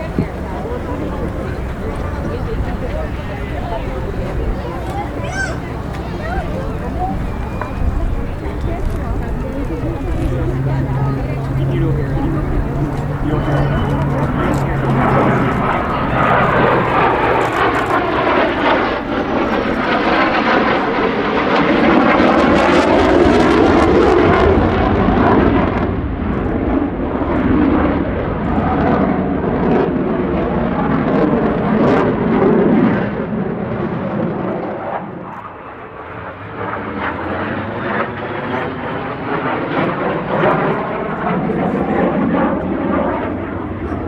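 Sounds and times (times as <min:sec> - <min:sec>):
fighter jet engines roaring: 0:00.0 - 0:44.0.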